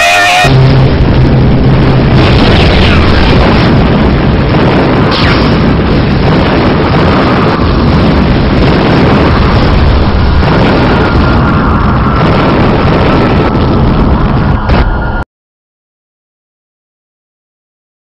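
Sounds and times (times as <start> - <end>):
explosion blast: 0.0 - 15.2.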